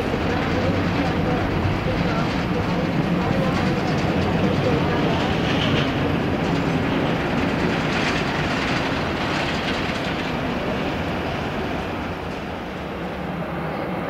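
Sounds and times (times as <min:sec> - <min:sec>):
jet engines passing overhead: 0:00.0 - 0:14.0.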